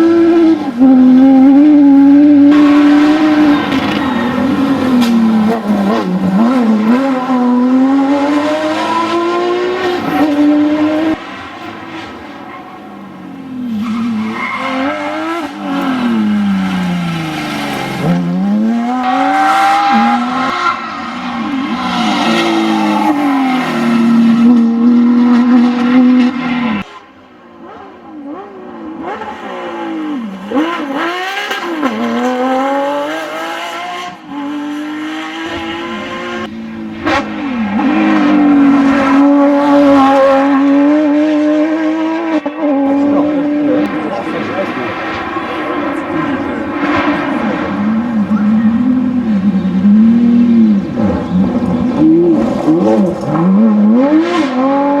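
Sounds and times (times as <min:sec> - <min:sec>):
car engine revving hard: 0:00.0 - 0:26.9, 0:27.6 - 0:55.0.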